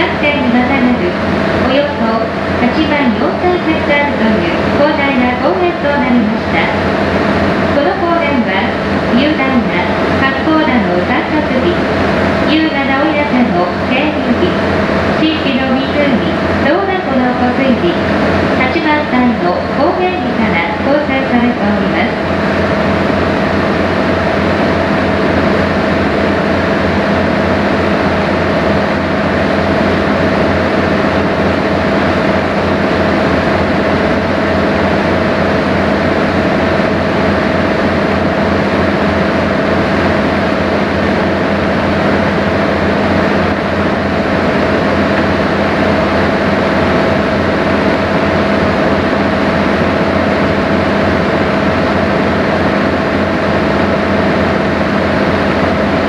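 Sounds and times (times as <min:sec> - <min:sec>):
boat engine drone: 0:00.0 - 0:56.0.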